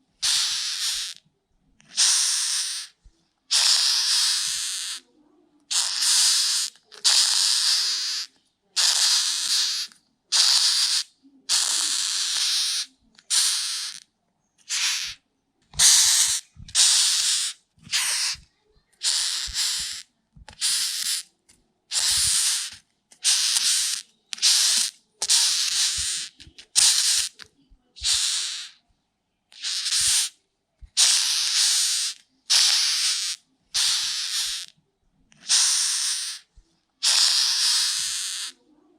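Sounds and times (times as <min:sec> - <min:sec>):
beetle hissing: 0:00.2 - 0:01.2, 0:01.9 - 0:05.0, 0:05.7 - 0:14.0, 0:14.6 - 0:15.2, 0:15.8 - 0:18.4, 0:19.0 - 0:21.3, 0:21.9 - 0:27.4, 0:28.0 - 0:28.8, 0:29.6 - 0:30.4, 0:31.0 - 0:34.7, 0:35.4 - 0:38.6.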